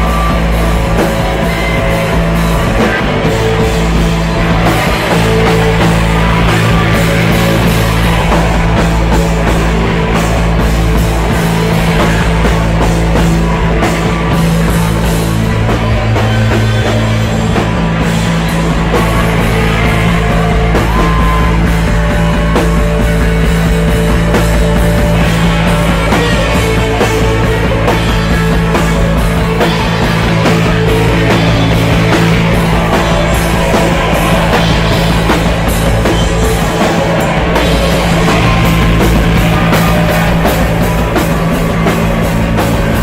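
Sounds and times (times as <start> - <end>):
rock band playing: 0.0 - 43.0.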